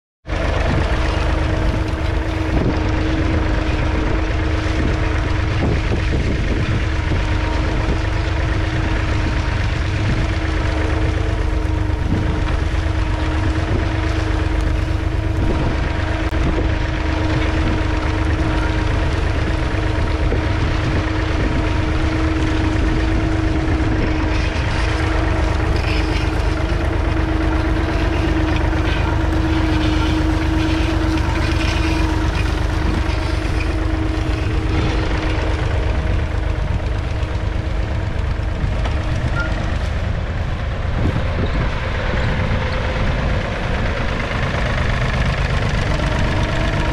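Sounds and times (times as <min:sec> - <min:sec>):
tractor diesel engine rumbling: 0:00.2 - 0:46.9.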